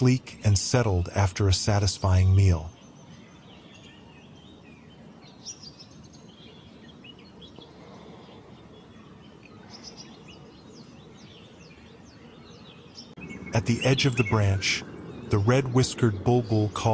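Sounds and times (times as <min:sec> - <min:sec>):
birds chirping: 0:00.0 - 0:16.9
outdoor background hiss: 0:00.0 - 0:16.9.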